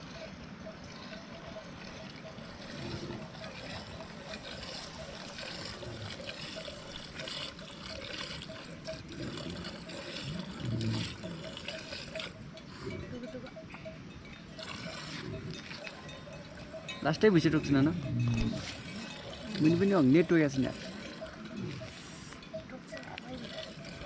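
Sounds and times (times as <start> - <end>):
liquid trickling and splashing: 0.0 - 12.6, 14.4 - 24.0
faint regular ticking: 0.9 - 24.0.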